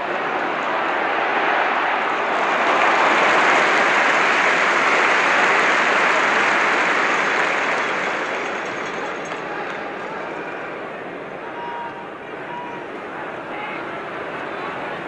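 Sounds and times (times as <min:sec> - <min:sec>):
stadium crowd applauding: 0:00.0 - 0:15.0.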